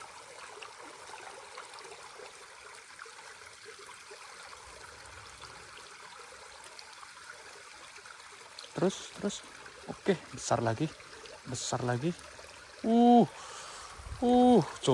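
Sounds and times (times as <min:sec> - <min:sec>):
stream water running: 0:00.0 - 0:14.9.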